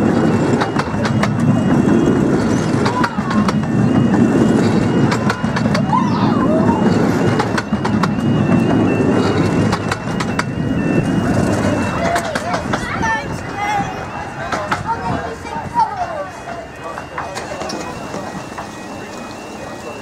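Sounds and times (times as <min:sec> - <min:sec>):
train coaches rumbling over rails: 0:00.0 - 0:20.0
two-tone crossing alarm: 0:00.0 - 0:20.0.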